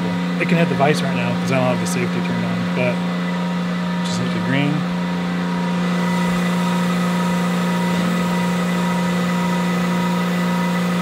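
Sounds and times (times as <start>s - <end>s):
mill machine humming: 0.0s - 11.0s.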